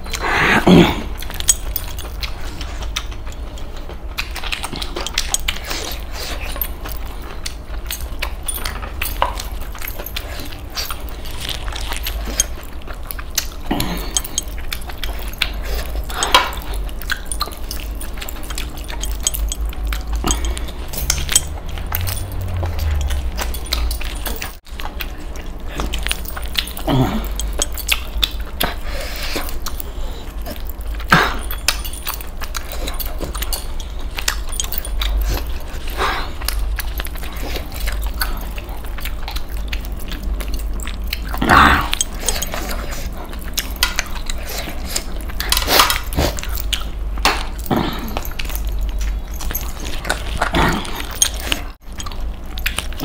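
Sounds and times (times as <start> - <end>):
low steady hum: 0.0 - 53.0
person chewing: 0.0 - 53.0
metal bracelets clinking: 1.2 - 3.6, 4.2 - 53.0.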